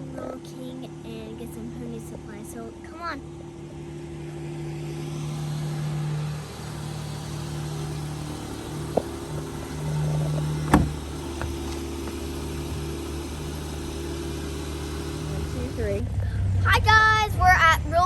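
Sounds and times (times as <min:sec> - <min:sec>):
car engine and road hum: 0:00.0 - 0:18.0.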